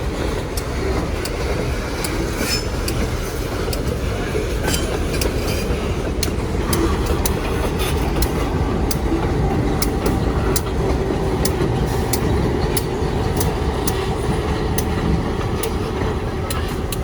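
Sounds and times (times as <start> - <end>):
rail wheels clicking over joints: 0.0 - 17.0
train rumbling past: 0.0 - 17.0.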